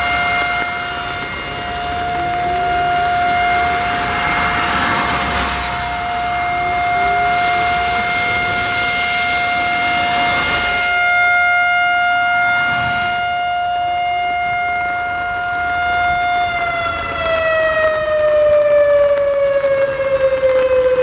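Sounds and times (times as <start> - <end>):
traffic hissing on wet road: 0.0 - 21.0
warning siren alert tone: 0.0 - 21.0.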